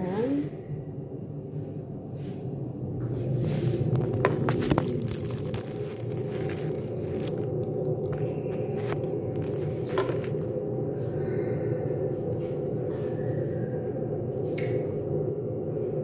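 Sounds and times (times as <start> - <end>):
appliance humming: 0.0 - 16.0.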